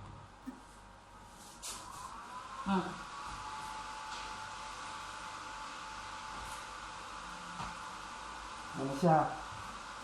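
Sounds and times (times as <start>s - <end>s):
machine fan whirring hiss: 0.0s - 10.0s.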